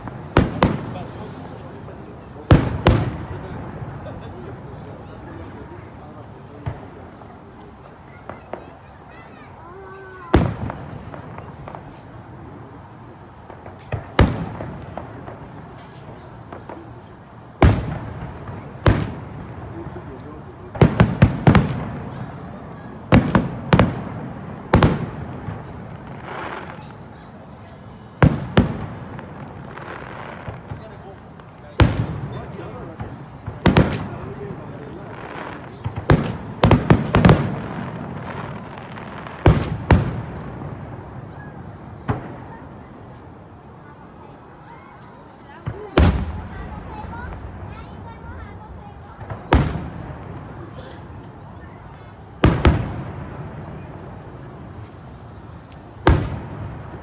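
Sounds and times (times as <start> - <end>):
faint firework crackles: 0.0 - 57.0
firework crack: 0.0 - 57.0
fireworks bangs echoing: 0.0 - 57.0.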